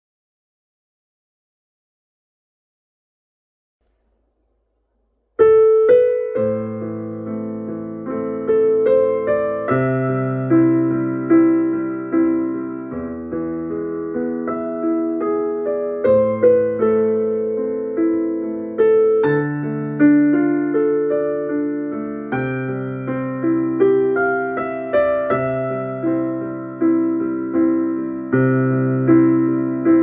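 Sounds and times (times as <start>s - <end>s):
electric piano melody: 5.4s - 30.0s.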